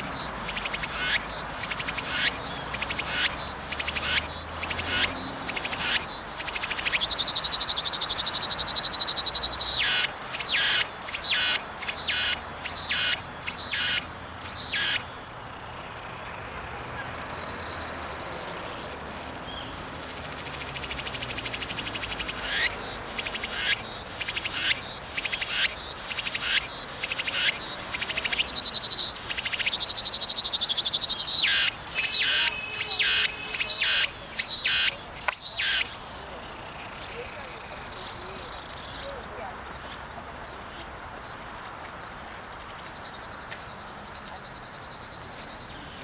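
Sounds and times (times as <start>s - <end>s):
cicadas buzzing and pulsing: 0.0s - 46.0s.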